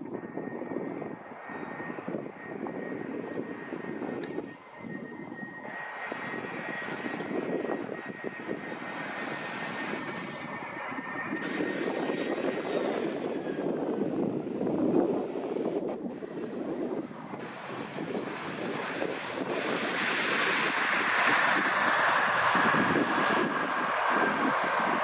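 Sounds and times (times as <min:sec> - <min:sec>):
jet engines rushing with high whine: 0:00.0 - 0:25.0.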